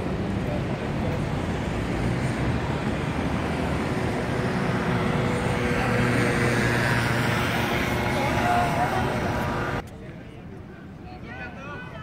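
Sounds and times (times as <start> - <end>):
street traffic rumbling: 0.0 - 11.4.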